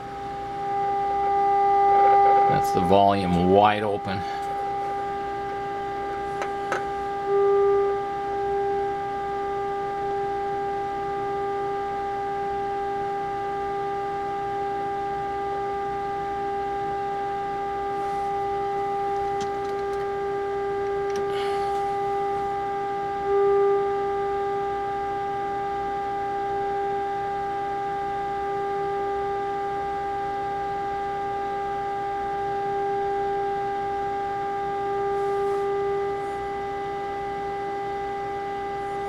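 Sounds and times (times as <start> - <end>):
test-tone whine from radio loudspeaker: 0.0 - 39.0.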